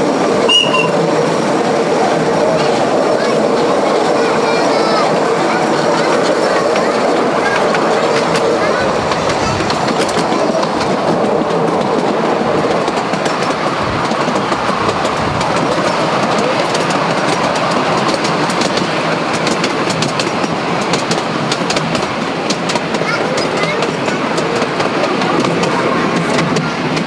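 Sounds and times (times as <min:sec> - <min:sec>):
miniature train rumbling: 0:00.0 - 0:27.0
wheels clicking over rails: 0:00.0 - 0:27.0.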